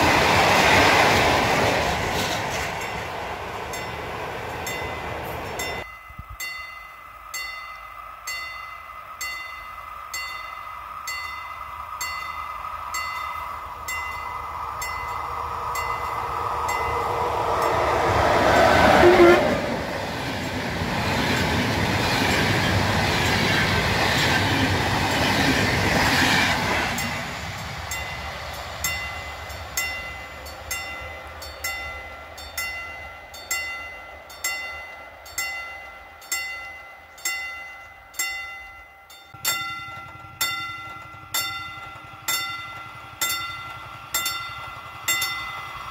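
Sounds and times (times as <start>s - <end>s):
passenger train passing on rails: 0.0s - 45.9s.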